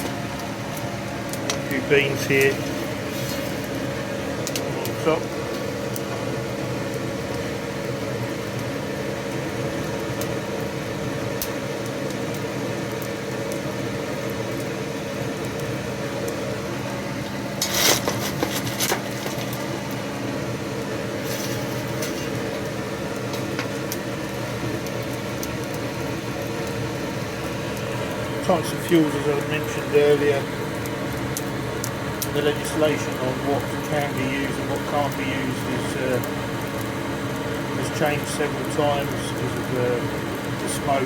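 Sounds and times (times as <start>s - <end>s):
air blower humming: 0.0s - 9.9s, 16.5s - 26.1s, 26.8s - 41.0s
fire ticking and crackling: 0.0s - 41.0s.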